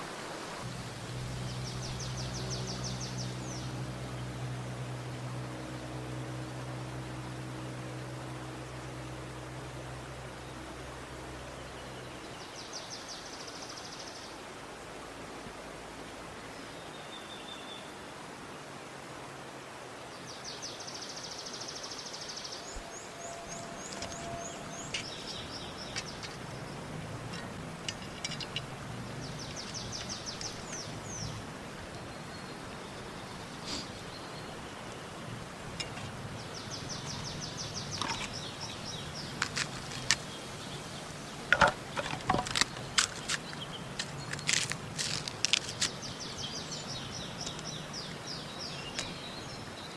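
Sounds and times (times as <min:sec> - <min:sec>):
outdoor hiss: 0:00.0 - 0:49.9
songbird singing: 0:00.6 - 0:18.8, 0:19.9 - 0:49.9.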